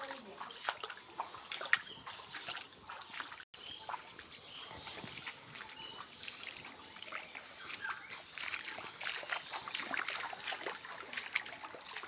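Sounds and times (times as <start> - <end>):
floodwater lapping and trickling: 0.0 - 12.0.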